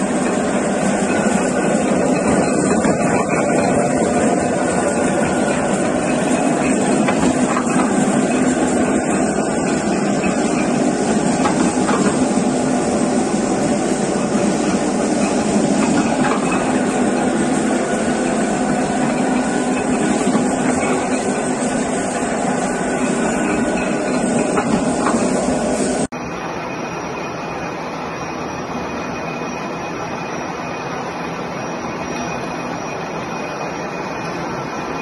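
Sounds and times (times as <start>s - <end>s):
gear-cutting machine running: 0.0s - 35.0s.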